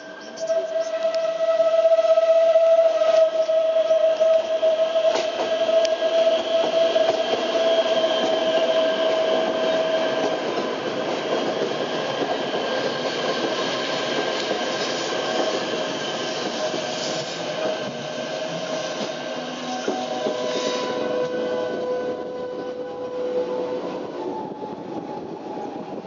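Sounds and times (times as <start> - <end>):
train wheels squealing: 0.0 - 1.3, 2.9 - 26.0
train running gear rumble: 2.9 - 26.0.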